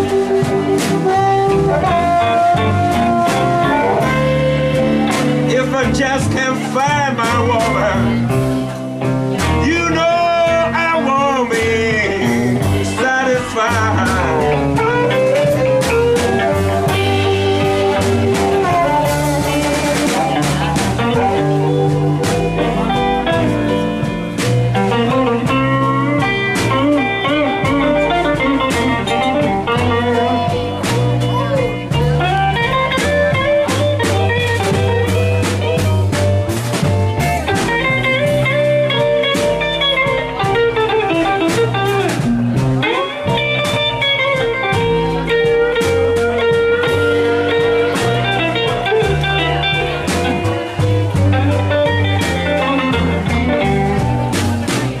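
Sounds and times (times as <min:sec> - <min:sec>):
drums keeping a steady beat: 0:00.0 - 0:55.0
electric guitars: 0:00.0 - 0:55.0
upright double bass: 0:00.0 - 0:55.0.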